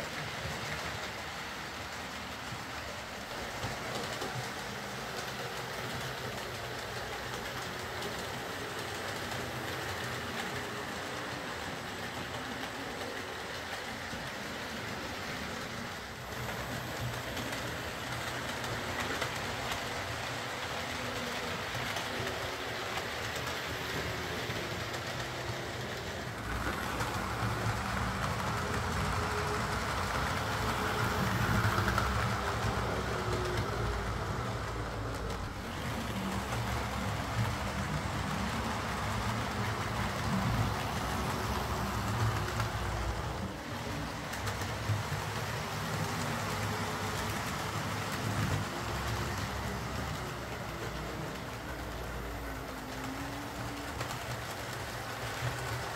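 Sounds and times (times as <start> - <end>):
model train motor hum: 0.0 - 55.9
wheels rolling on track: 0.0 - 55.9.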